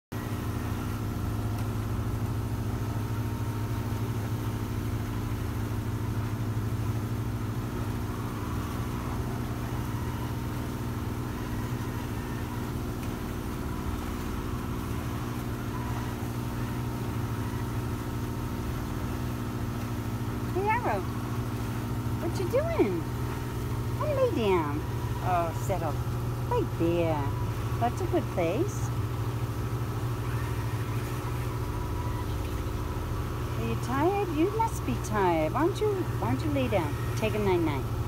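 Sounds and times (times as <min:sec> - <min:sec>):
boat engine humming: 0:00.1 - 0:38.0.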